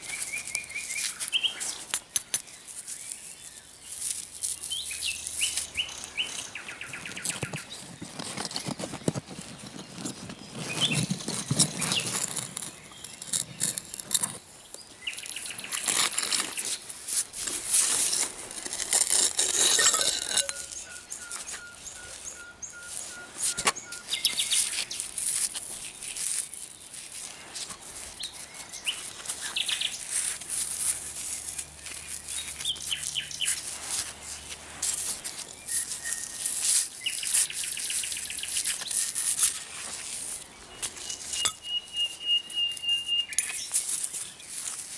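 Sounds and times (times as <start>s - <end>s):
nightingale singing: 0.0s - 16.9s, 19.0s - 44.8s
hand digging in sandy soil: 0.0s - 44.9s.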